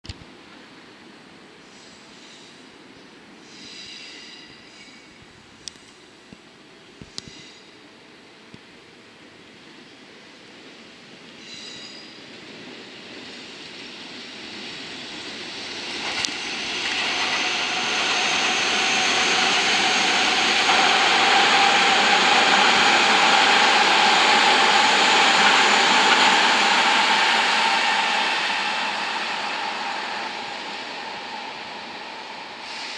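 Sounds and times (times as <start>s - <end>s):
train wheel and rail noise: 0.1s - 32.9s.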